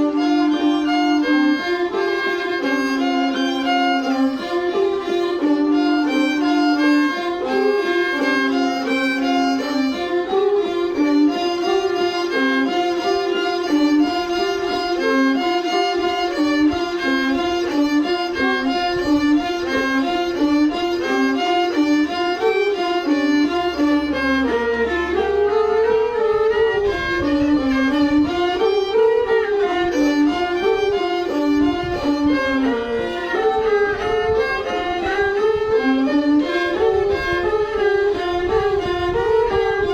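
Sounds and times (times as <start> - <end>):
bowed string instrument melody: 0.0 - 39.9.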